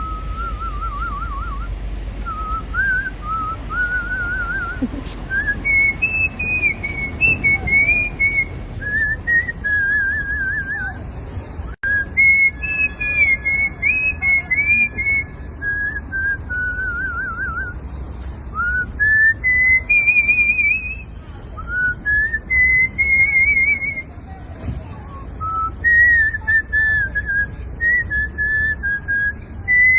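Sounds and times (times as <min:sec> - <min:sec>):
man whistling a melody: 0:00.0 - 0:11.0, 0:11.8 - 0:17.8, 0:18.5 - 0:24.1, 0:25.4 - 0:29.9.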